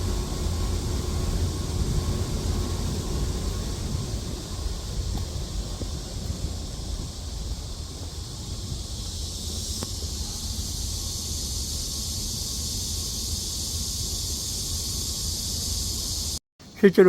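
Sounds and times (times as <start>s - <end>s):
wind rumble on microphone: 0.0s - 16.3s
cicadas droning: 0.0s - 17.0s.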